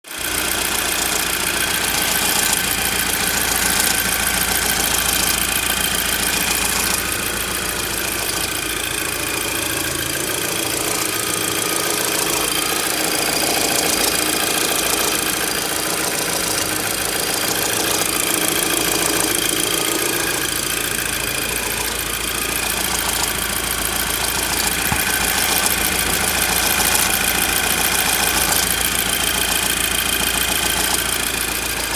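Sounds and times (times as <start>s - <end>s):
car engine idling: 0.0s - 31.9s
fast metallic ticking rattle: 0.2s - 31.9s.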